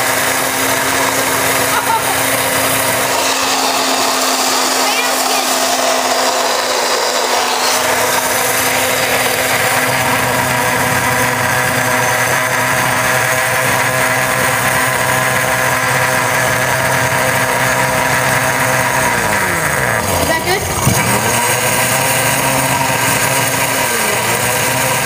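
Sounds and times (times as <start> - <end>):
blender motor running: 0.0 - 25.0.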